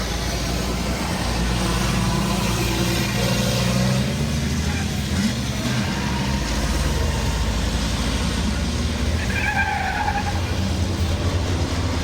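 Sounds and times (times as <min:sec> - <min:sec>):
diesel truck engines droning: 0:00.0 - 0:12.0.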